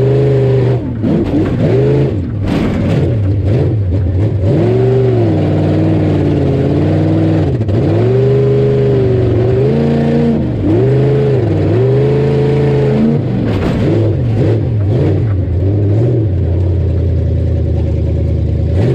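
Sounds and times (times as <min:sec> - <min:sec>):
truck engine revving hard: 0:00.0 - 0:16.8, 0:18.6 - 0:18.9.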